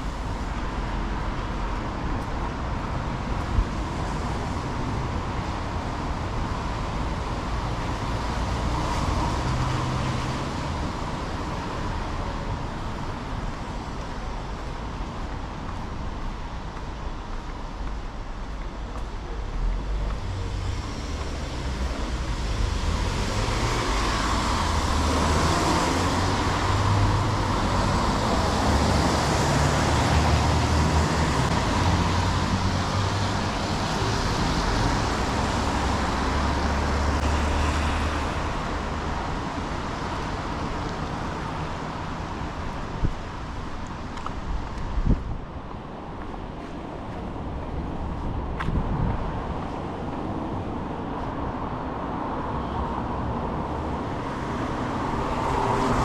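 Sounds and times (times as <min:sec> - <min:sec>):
traffic engine rumble: 0:00.0 - 0:56.0.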